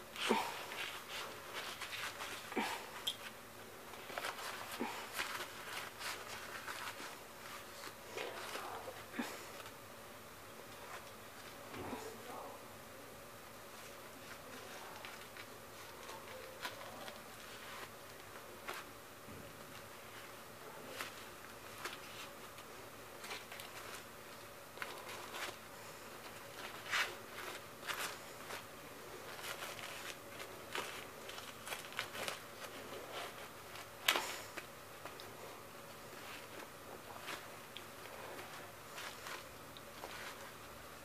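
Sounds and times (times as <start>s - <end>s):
diaper rustling and crinkling: 0.1s - 9.8s, 13.7s - 19.0s, 19.6s - 41.0s.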